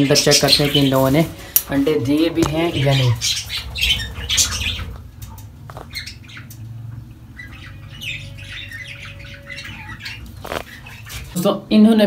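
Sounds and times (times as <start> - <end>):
lovebirds squawking: 0.0 - 12.0.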